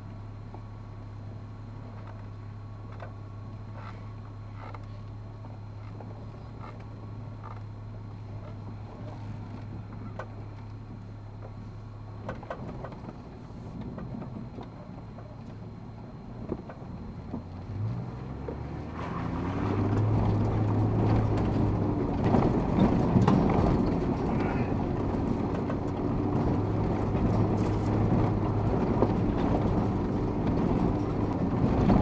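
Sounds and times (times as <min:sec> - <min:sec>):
vehicle engine: 0:00.0 - 0:32.0.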